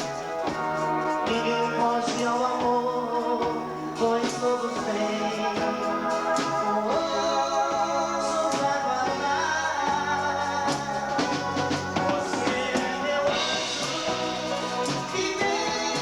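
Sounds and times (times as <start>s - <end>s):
drum kit: 0.0s - 16.0s
keyboards: 0.0s - 16.0s
person singing: 0.0s - 16.0s.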